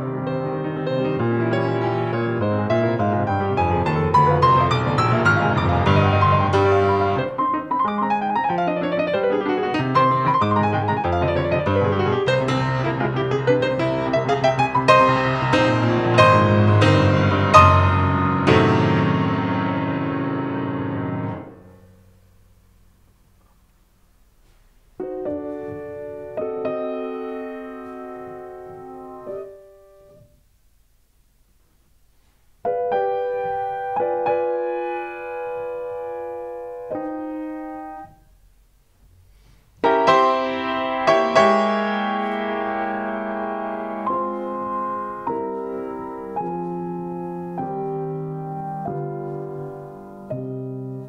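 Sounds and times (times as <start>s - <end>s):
grand piano chords: 0.0s - 30.5s, 32.6s - 51.0s.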